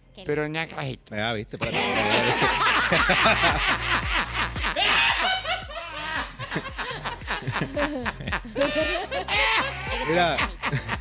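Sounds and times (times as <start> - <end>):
people laughing: 1.6 - 11.0.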